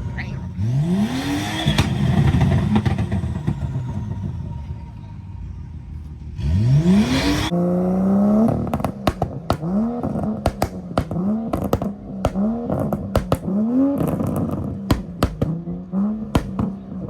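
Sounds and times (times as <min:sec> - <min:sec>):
car engine revving: 0:00.0 - 0:17.0
exhaust pops: 0:00.0 - 0:17.0.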